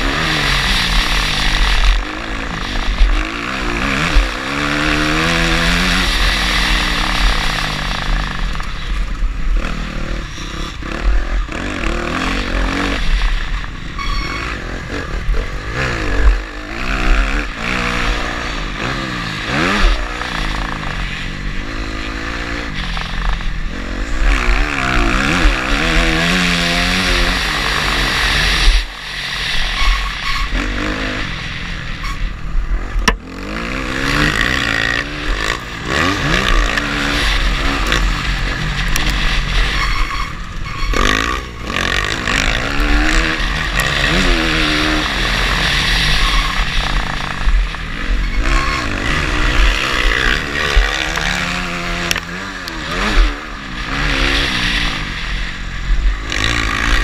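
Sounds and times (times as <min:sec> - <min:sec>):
dirt bike engine revving: 0:00.0 - 0:57.0
wind noise on microphone: 0:00.0 - 0:57.0.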